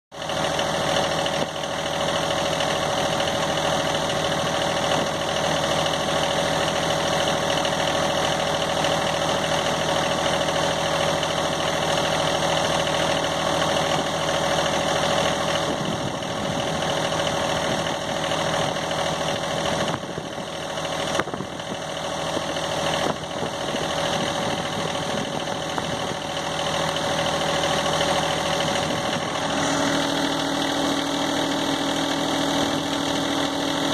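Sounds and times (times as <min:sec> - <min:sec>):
tractor engine idling: 0:00.1 - 0:33.9.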